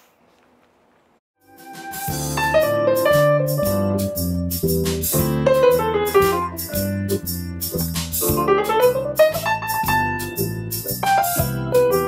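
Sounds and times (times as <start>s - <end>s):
piano keyboard music: 1.4s - 12.0s.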